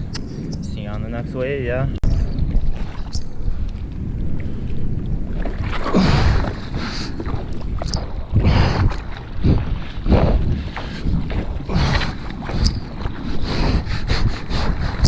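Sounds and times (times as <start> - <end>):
wind buffeting microphone: 0.0 - 15.0
sea water splashing: 2.1 - 15.0.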